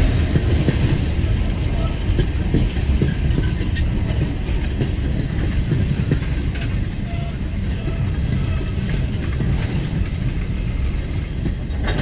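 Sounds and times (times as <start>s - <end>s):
freight train rumbling past: 0.0s - 12.0s
wheels clattering over rails: 0.0s - 12.0s.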